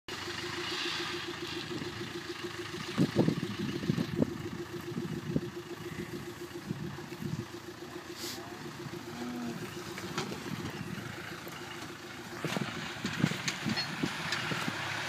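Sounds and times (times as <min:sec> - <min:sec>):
off-road vehicle engine running: 0:00.1 - 0:15.0.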